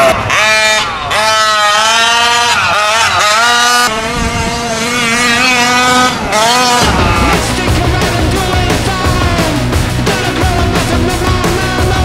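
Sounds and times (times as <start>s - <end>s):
rc truck engine revving: 0.0s - 12.0s.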